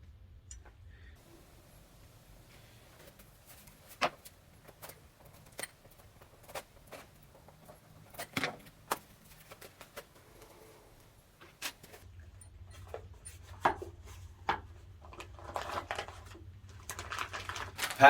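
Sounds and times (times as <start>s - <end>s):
parts and packaging being handled: 1.2s - 18.0s.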